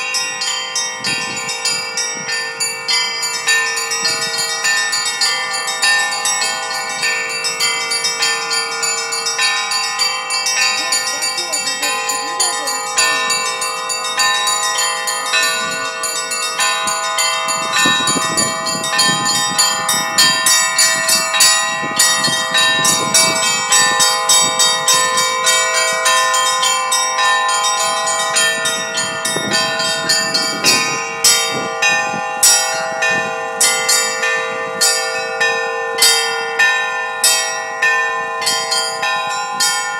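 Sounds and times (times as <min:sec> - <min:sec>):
church bells ringing a peal: 0:00.0 - 0:39.9.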